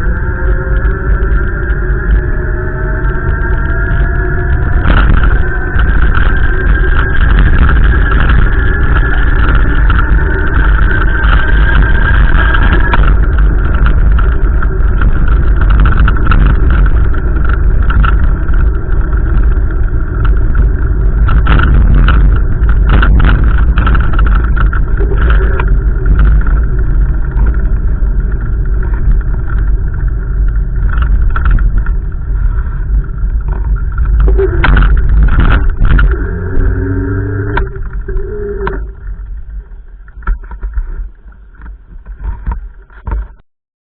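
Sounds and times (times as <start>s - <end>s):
strong wind buffeting microphone: 0.0s - 43.4s.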